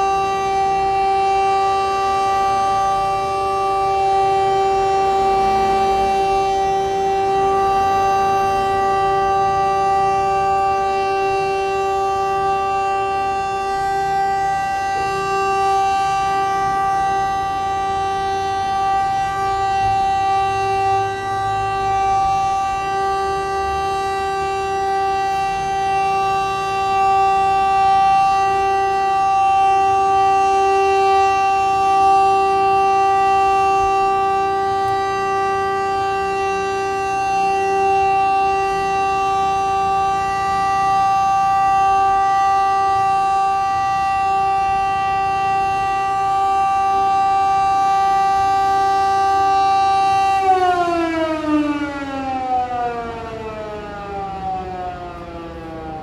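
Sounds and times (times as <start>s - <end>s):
warning siren: 0.0s - 56.0s.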